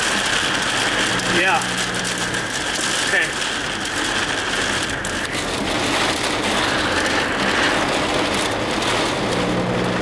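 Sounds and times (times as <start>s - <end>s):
low car hum: 0.0s - 10.0s.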